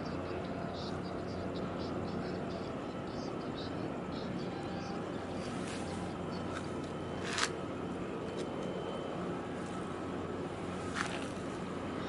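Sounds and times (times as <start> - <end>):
distant ship engines droning: 0.0 - 12.0.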